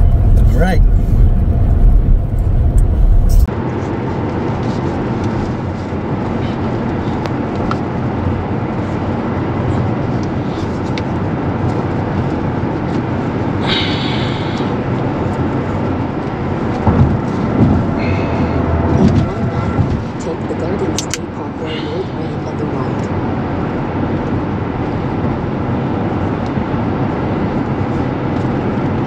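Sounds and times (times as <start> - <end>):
deep rumble with clicks: 0.0 - 29.0
road and tyre noise: 0.0 - 29.0.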